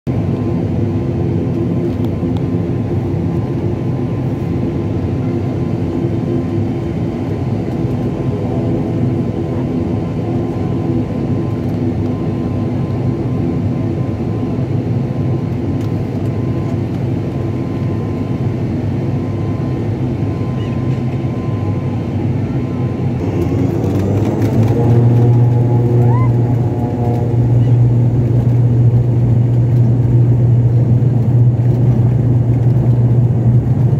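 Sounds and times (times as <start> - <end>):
deep steady engine tone: 0.1 - 33.9
turboprop engines humming: 0.1 - 33.9.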